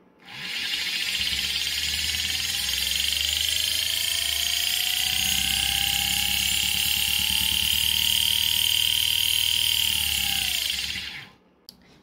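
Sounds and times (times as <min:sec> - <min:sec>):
low hum: 0:00.0 - 0:12.0
electric motor whine rising: 0:00.2 - 0:11.4.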